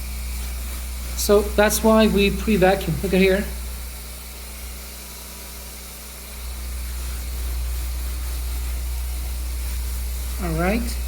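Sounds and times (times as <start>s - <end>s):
carpet cleaning machine running: 0.0s - 11.0s.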